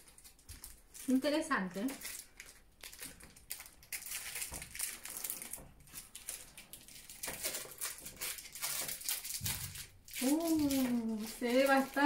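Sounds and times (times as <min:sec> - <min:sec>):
plastic candy wrapper crinkling: 0:00.0 - 0:12.0.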